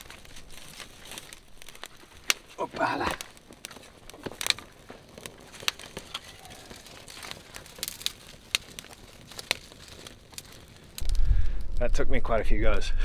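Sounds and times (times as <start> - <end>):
crumpling: 0.0 - 11.4
campfire crackling: 0.0 - 13.0.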